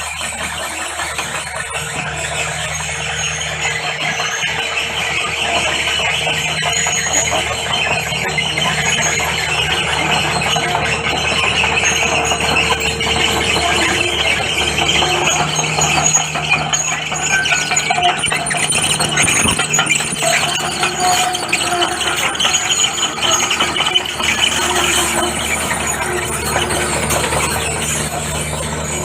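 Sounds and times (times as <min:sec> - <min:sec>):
diesel engine hum: 0:00.0 - 0:29.0
metallic squeal of crawler tracks: 0:00.0 - 0:29.0.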